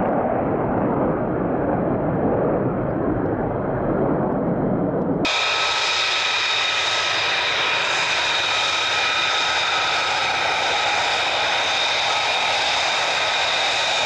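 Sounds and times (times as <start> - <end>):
jet engine running with high whine: 0.0 - 14.0.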